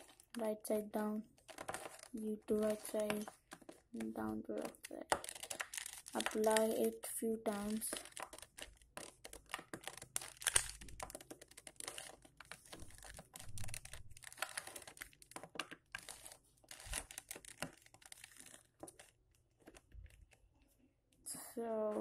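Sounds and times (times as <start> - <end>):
puzzle cube clicking and rattling: 1.2 - 20.4.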